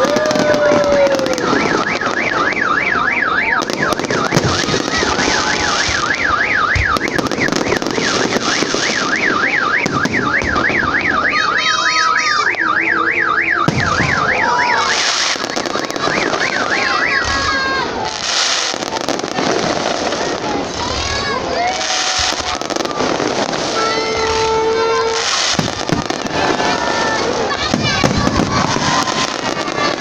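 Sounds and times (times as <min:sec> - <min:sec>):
car alarm siren warbling: 0:00.0 - 0:20.2, 0:21.8 - 0:30.0
firework bangs and crackle: 0:00.0 - 0:30.0.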